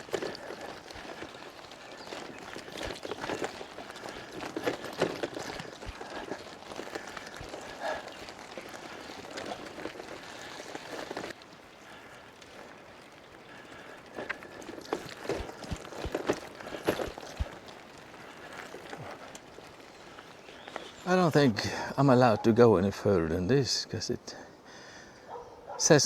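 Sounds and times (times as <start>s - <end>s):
bicycle tyres crunching on rough track: 0.0s - 26.0s.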